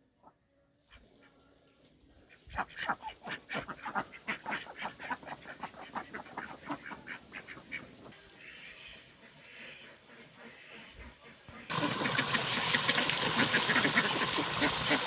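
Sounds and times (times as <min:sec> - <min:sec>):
ducks quacking: 0:02.4 - 0:15.0.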